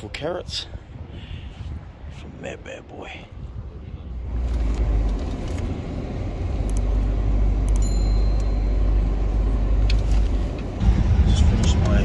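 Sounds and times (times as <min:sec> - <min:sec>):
car engine and tyres rumbling: 0:01.7 - 0:12.0.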